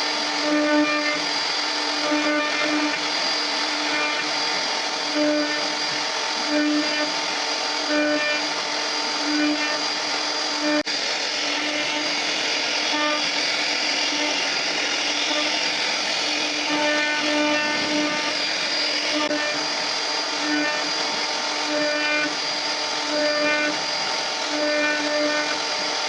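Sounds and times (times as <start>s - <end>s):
router carving wood: 0.0s - 26.0s.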